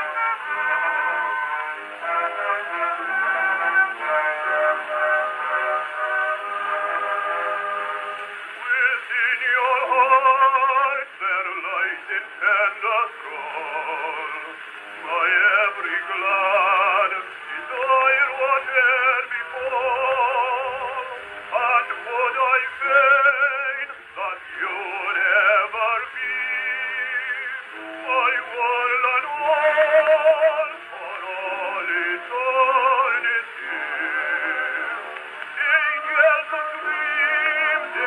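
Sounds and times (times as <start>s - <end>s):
man singing on gramophone record: 0.0s - 38.0s.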